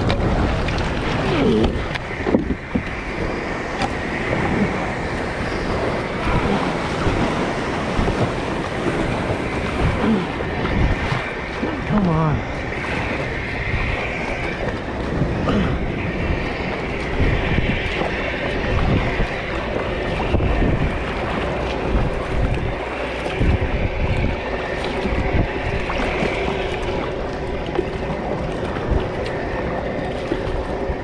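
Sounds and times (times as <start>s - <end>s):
surf: 0.0s - 31.0s
water washing around kayak: 0.0s - 31.0s
wind buffeting microphone: 0.0s - 31.0s.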